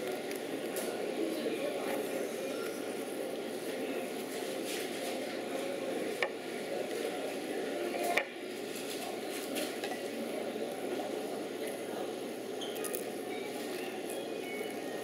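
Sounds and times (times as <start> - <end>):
restaurant din: 0.0 - 15.0.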